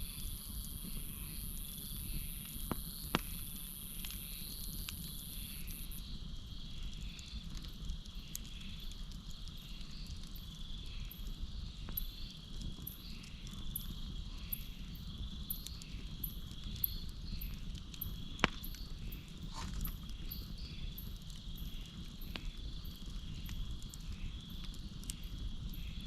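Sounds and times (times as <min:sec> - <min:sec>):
campfire burning: 0:00.0 - 0:26.0
crickets chirping: 0:00.0 - 0:26.0
fire crackling pops: 0:00.0 - 0:26.0.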